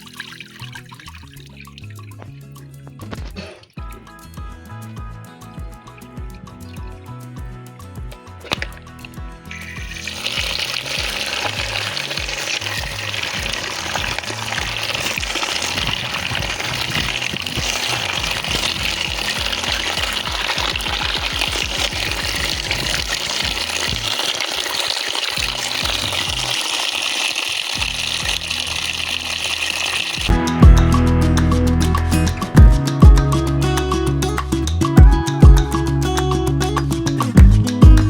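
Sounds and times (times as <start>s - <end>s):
music with bass beat: 0.8s - 24.2s, 30.2s - 38.0s.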